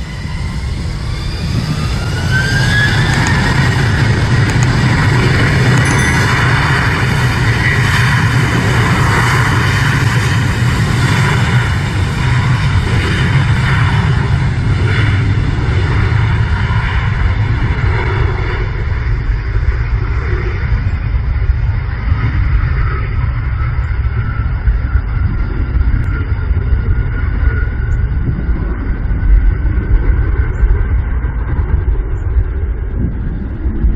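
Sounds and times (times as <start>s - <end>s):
jet engine roar: 0.0s - 33.9s.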